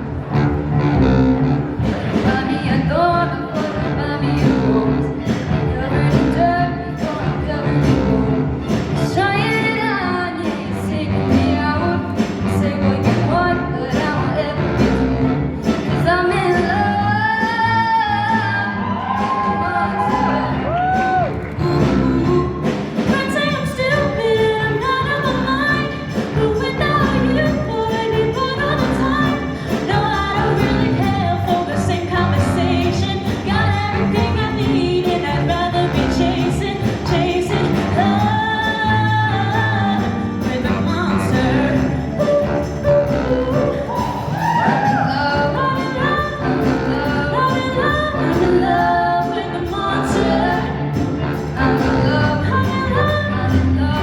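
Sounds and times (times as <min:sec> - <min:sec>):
live band with drums: 0:00.0 - 0:54.0.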